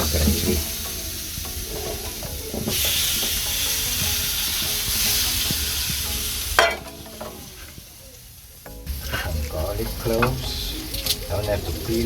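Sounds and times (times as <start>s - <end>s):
fat sizzling in skillet: 0.0s - 12.0s.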